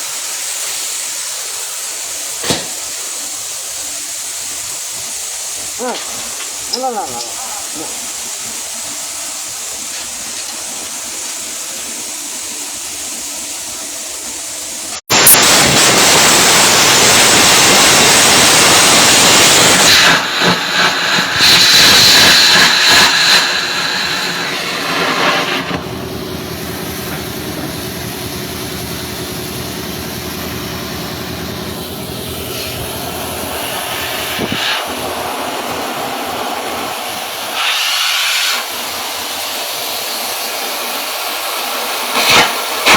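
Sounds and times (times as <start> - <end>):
steady welding hiss: 0.0 - 42.9
welding arc crackling sizzle: 0.0 - 42.9.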